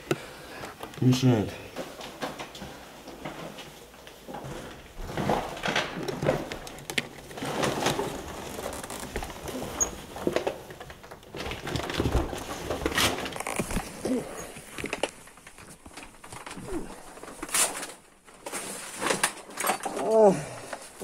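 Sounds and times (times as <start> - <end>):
rubbish and plastic bags rustling: 0.8 - 21.0.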